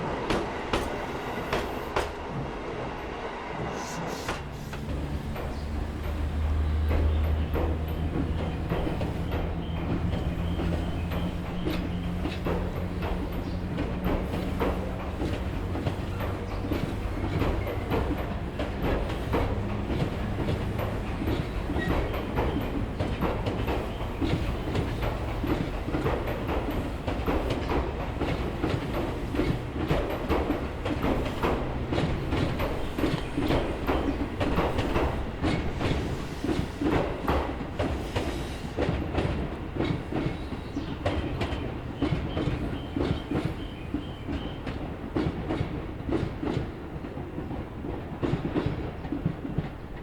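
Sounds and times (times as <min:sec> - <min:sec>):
train rumble: 0:00.0 - 0:50.0
train wheels clattering on rails: 0:00.0 - 0:50.0.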